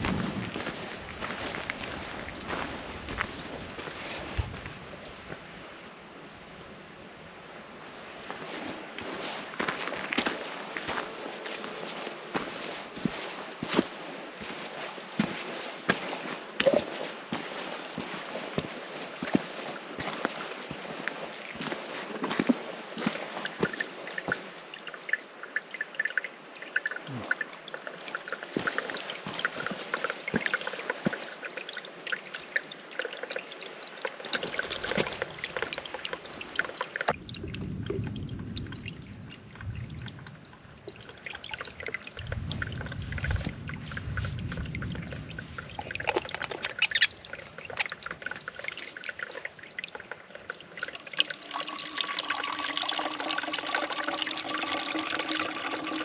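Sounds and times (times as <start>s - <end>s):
stream water trickling over rocks: 0.0s - 56.0s.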